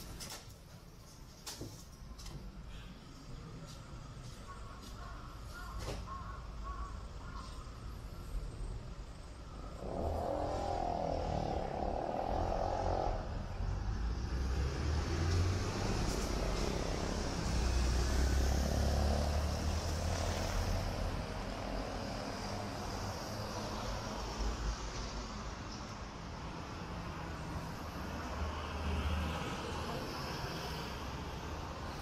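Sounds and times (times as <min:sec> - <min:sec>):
vehicles driving past: 0:02.6 - 0:32.0.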